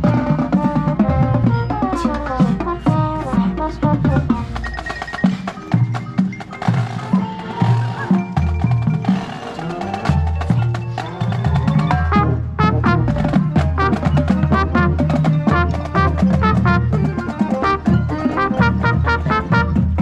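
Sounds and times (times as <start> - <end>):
drums: 0.0 - 20.0
mallet percussion: 0.0 - 20.0
marching band playing: 0.0 - 20.0.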